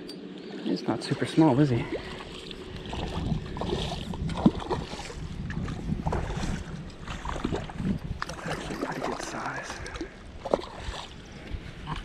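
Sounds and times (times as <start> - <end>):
river water splashing: 0.0 - 12.0.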